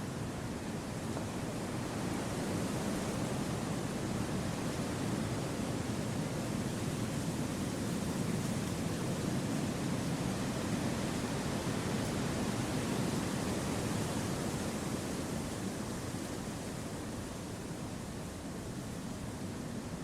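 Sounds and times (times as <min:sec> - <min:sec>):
wind through trees: 0:00.0 - 0:20.0.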